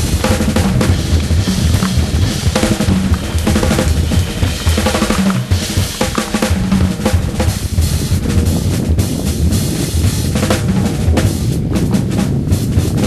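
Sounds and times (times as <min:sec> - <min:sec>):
music with driving drums: 0:00.0 - 0:13.0.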